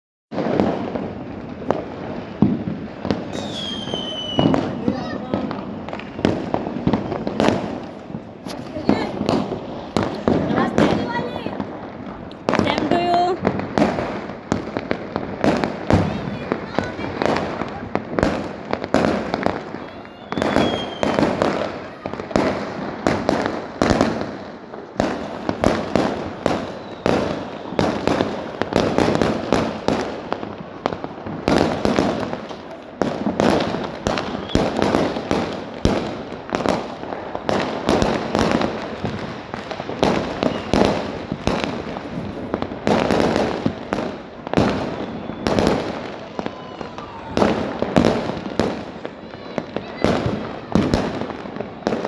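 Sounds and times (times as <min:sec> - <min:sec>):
firecrackers banging: 0:00.3 - 0:52.0.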